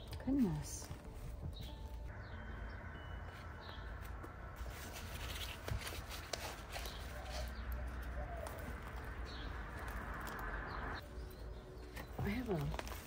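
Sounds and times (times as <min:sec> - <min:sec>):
birds calling faintly: 0:00.0 - 0:13.0.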